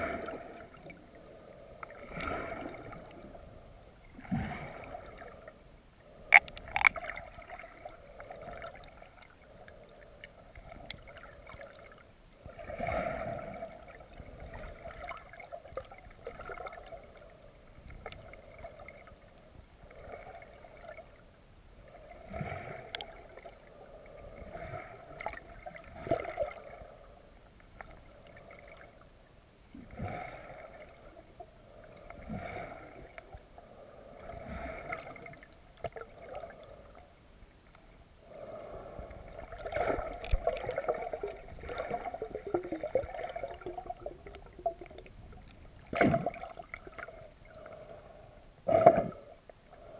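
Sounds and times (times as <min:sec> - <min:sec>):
muffled underwater river water: 0:00.0 - 0:49.9.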